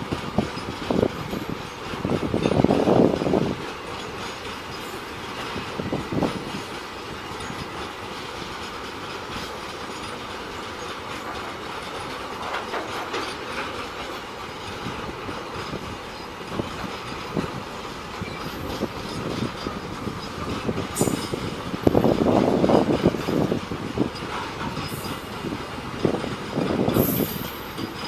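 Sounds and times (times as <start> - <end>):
train wheels clacking on rails: 0.0 - 28.0.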